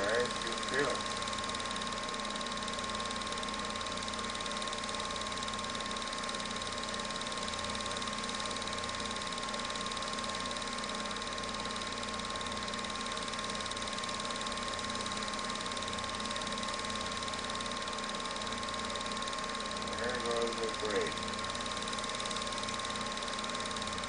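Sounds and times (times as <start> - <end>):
film projector whirring: 0.0 - 24.0.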